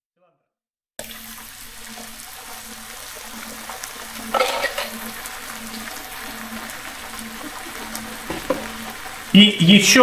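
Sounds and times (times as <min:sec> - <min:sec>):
onions sizzling in a pan: 0:01.0 - 0:10.0.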